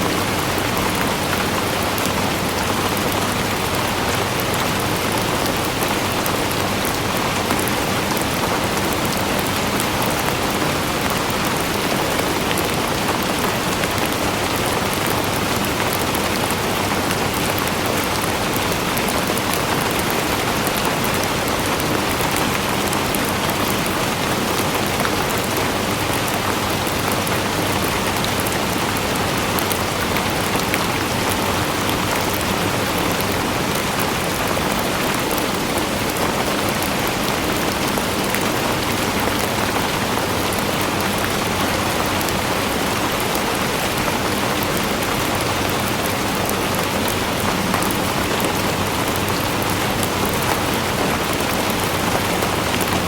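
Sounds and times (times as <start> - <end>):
rain on hard surface: 0.0 - 53.0.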